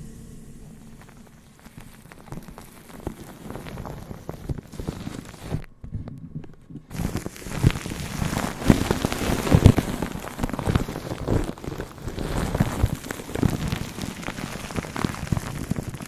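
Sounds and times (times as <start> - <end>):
close crackling and tapping: 0.6 - 16.0.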